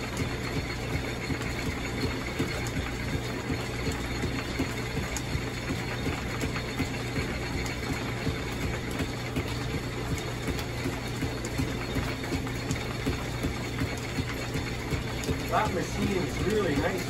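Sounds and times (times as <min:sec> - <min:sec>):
drill press running: 0:00.0 - 0:17.0
light regular ticking: 0:00.1 - 0:17.0.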